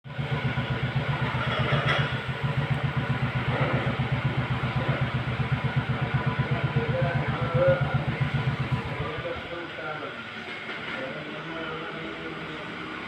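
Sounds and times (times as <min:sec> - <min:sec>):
engine running with low throb: 0:00.0 - 0:13.0.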